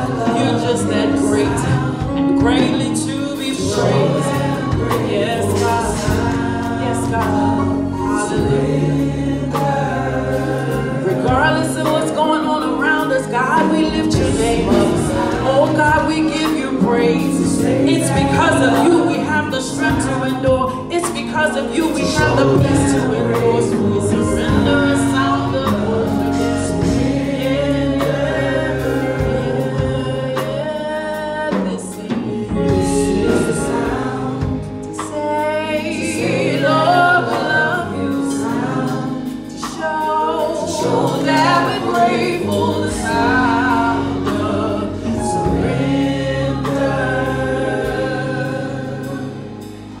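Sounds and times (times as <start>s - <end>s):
group singing gospel: 0.0s - 50.0s
keyboard chords: 0.0s - 50.0s.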